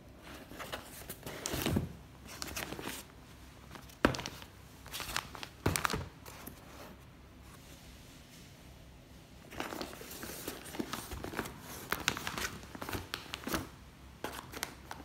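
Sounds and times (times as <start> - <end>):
paper rustling and crinkling: 0.2 - 7.7, 9.4 - 15.0.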